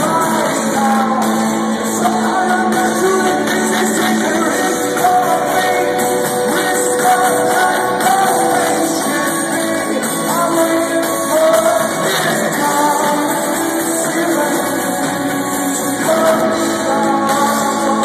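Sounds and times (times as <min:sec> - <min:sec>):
live rock band playing: 0:00.0 - 0:18.0
person singing: 0:00.0 - 0:18.0.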